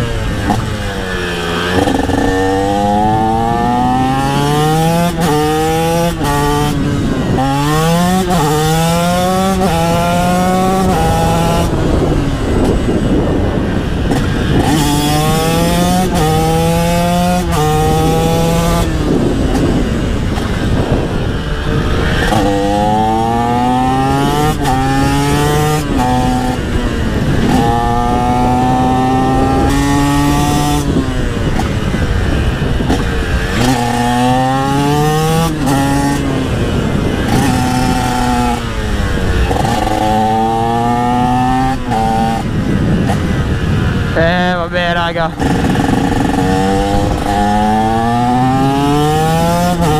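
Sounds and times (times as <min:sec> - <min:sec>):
motorcycle engine accelerating: 0:00.0 - 0:49.9
rushing wind noise: 0:00.0 - 0:49.9.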